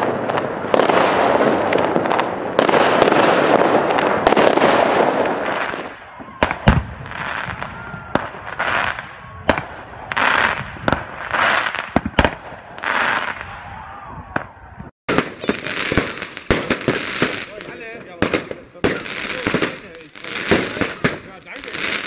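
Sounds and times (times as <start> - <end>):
fireworks crackle: 0.0 - 13.7, 15.1 - 22.0
fireworks bangs: 0.0 - 22.0.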